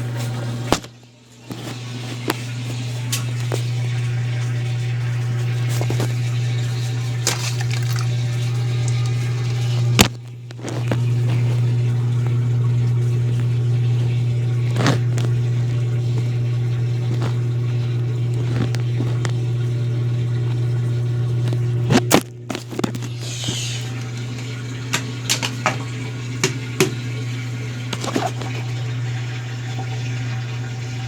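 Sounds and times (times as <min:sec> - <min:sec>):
washing machine motor humming: 0:00.0 - 0:31.0.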